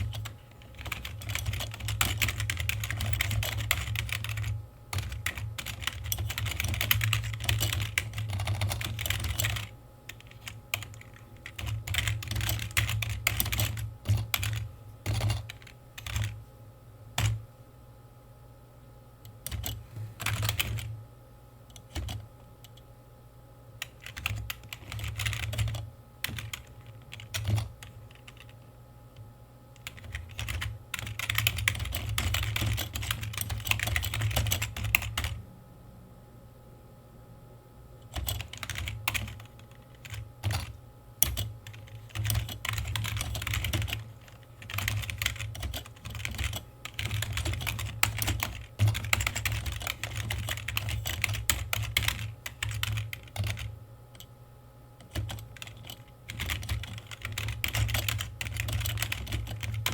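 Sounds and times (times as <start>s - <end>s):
computer keyboard typing: 0.0s - 16.4s, 17.2s - 17.4s, 19.3s - 20.9s, 21.7s - 22.2s, 23.8s - 28.6s, 29.8s - 35.4s, 38.0s - 54.3s, 55.0s - 59.9s.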